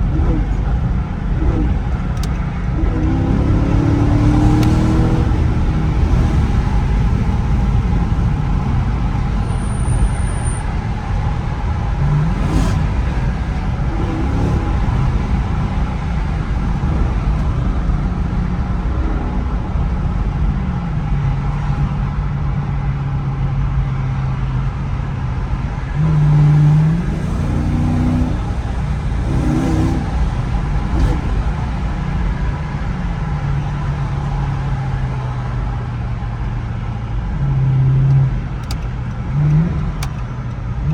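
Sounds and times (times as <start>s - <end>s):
car engine running with gear changes: 0.0s - 40.9s.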